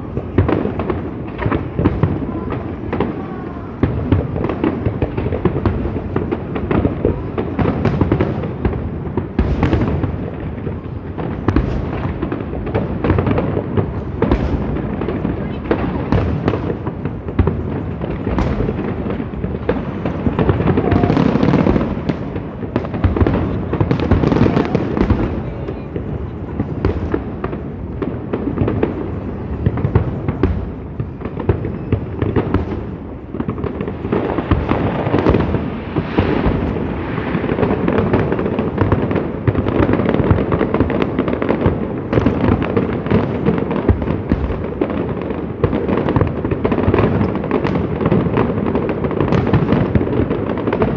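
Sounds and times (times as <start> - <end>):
fireworks bangs and crackle: 0.0 - 50.9.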